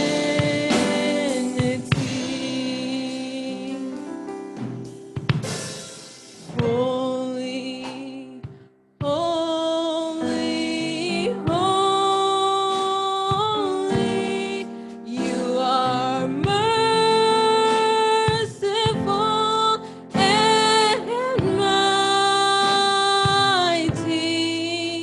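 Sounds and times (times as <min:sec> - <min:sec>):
person singing long held notes: 0:00.0 - 0:04.3, 0:06.6 - 0:25.0
instrumental backing music: 0:00.0 - 0:25.0.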